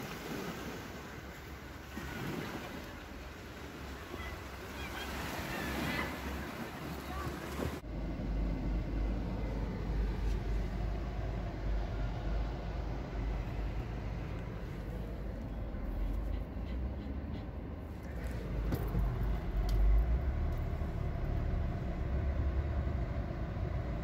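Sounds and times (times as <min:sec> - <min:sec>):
car engine and road rumble: 0:02.6 - 0:24.0.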